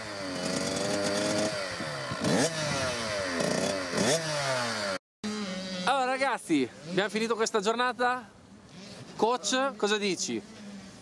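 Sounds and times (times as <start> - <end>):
dirt bike engine revving: 0.0 - 7.8, 8.7 - 11.0.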